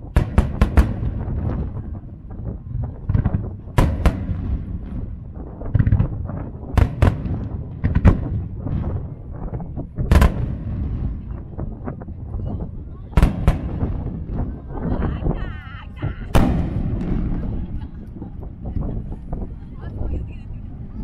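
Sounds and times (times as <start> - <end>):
fireworks booming: 0.0 - 20.0
fireworks crackle: 0.0 - 21.0.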